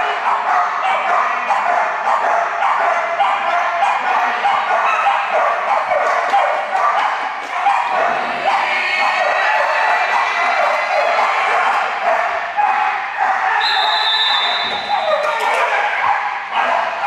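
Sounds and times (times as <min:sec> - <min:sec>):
dogs barking and yipping: 0:00.0 - 0:17.0.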